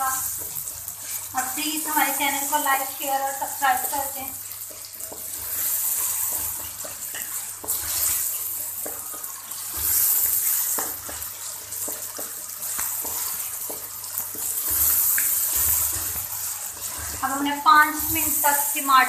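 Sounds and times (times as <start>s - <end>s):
vegetables sizzling in oil: 0.0s - 19.0s
spatula scraping a pan: 0.1s - 19.0s.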